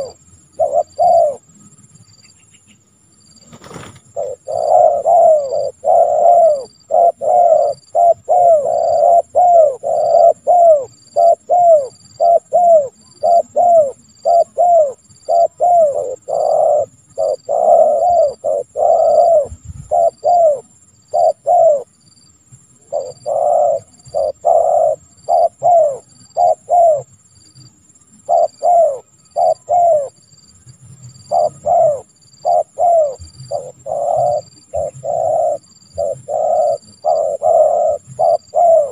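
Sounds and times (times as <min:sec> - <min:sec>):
dove cooing: 0:00.0 - 0:01.5, 0:03.7 - 0:21.9, 0:22.8 - 0:27.1, 0:28.2 - 0:30.2, 0:31.1 - 0:38.9.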